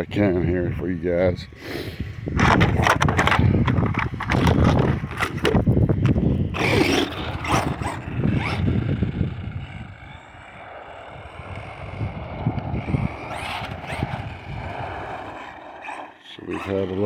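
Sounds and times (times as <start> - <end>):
electric motor whining: 0.0 - 17.0
tyres scraping on road: 0.1 - 17.0.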